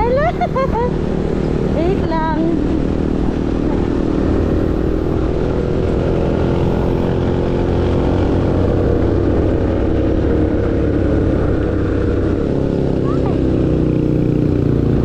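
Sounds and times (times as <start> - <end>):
road and wind noise: 0.0 - 15.0
scooter engine running: 0.0 - 15.0.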